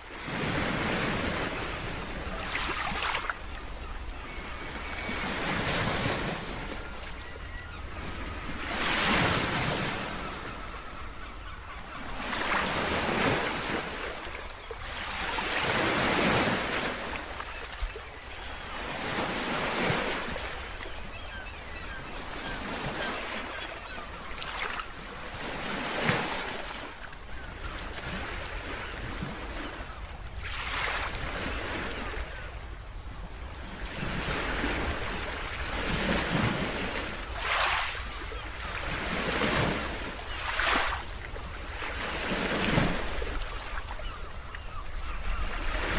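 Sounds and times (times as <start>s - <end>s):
sea waves breaking on shore: 0.0s - 45.9s
wind: 0.0s - 45.9s.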